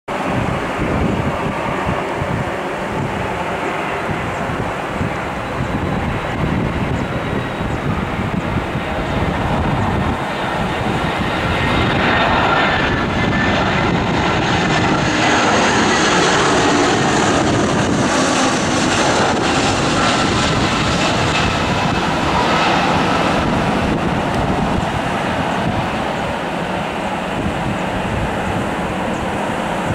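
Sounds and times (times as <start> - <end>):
jet engine rushing and whining: 0.1 - 29.9.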